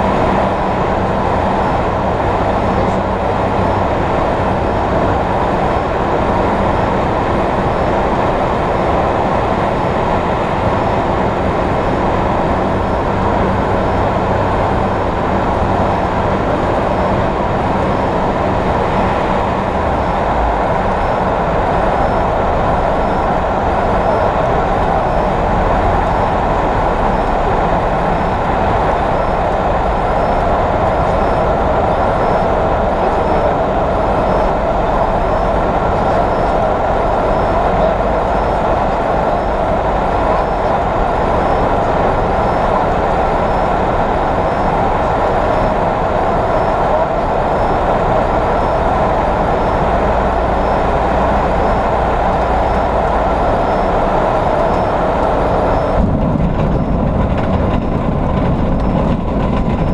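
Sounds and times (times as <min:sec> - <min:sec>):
aircraft engine and propeller: 0:00.0 - 0:59.9
wind noise: 0:00.0 - 0:59.9.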